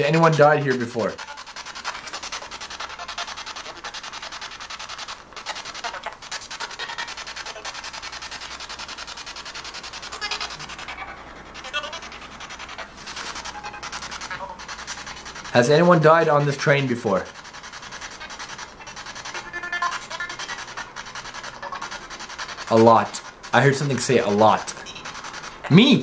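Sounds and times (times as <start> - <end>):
fast chopping radio static: 0.0 - 26.0.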